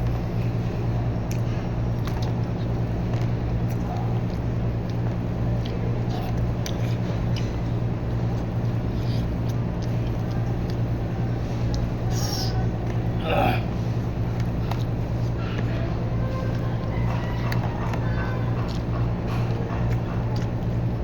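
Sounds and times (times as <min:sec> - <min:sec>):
steady low hum: 0:00.0 - 0:21.0
close-up chewing: 0:00.1 - 0:21.0.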